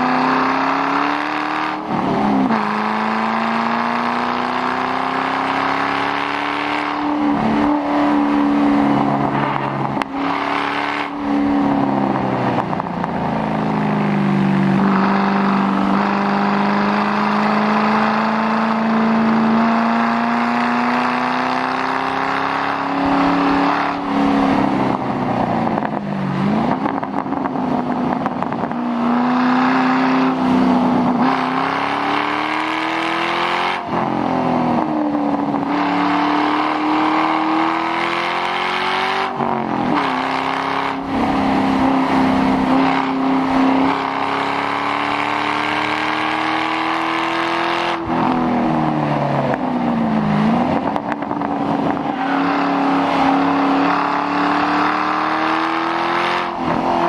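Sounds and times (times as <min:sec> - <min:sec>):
car engine revving through loud exhaust: 0:00.0 - 0:57.0.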